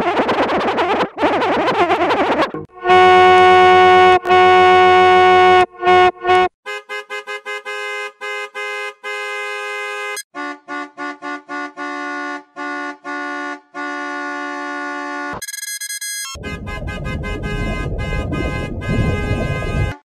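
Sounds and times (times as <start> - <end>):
lower-pitched horn honks: 2.6 - 15.4, 16.4 - 20.0
car horn honking: 2.7 - 20.0.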